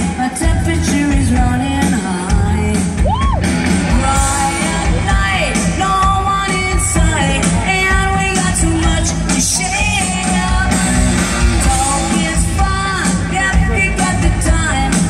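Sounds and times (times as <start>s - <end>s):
distant live rock band: 0.0s - 15.0s
lead vocal singing: 0.0s - 15.0s.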